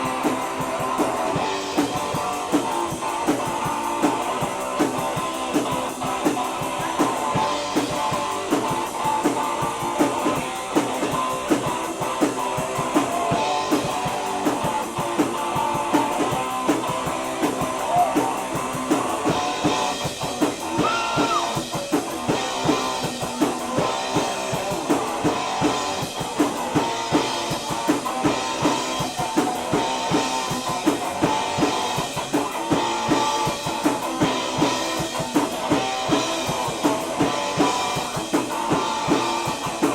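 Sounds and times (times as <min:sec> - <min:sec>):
instrumental rock band: 0:00.0 - 0:39.9.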